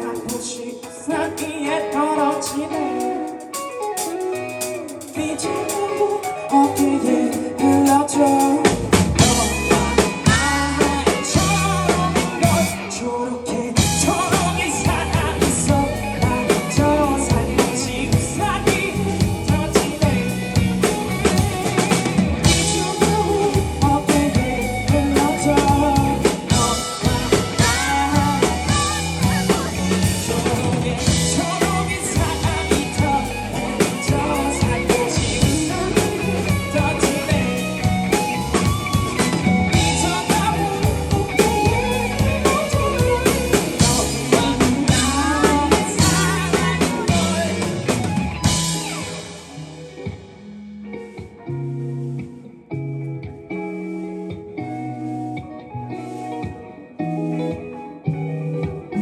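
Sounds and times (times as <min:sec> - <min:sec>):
person singing: 0:00.0 - 0:50.3
band playing live: 0:00.0 - 0:59.0.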